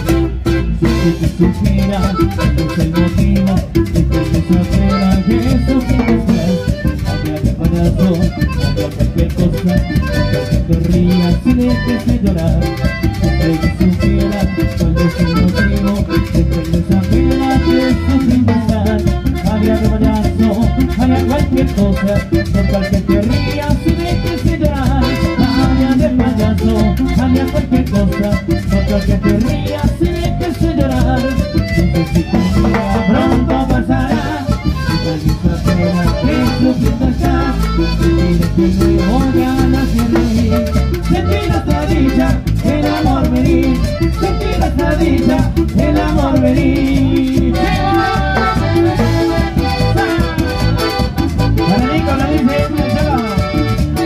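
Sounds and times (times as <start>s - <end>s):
live latin dance band: 0.0s - 54.0s.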